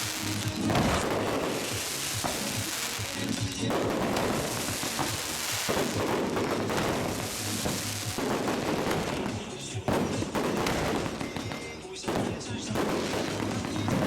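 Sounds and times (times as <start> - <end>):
firecrackers crackling: 0.0 - 14.0
loud firecracker blast: 0.0 - 14.0.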